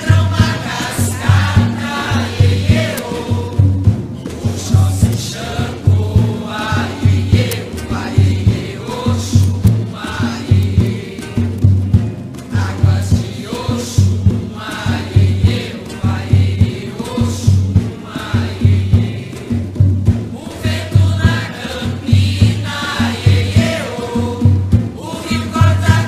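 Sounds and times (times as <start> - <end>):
group of voices singing a chant: 0.0 - 11.7, 12.5 - 26.0
low drum beat: 0.0 - 26.0.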